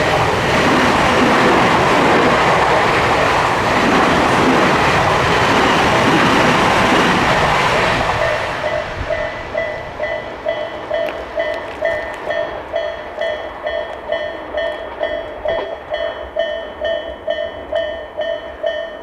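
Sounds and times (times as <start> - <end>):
crossing warning bell ringing: 0.0 - 19.0
electric train passing: 0.0 - 19.0.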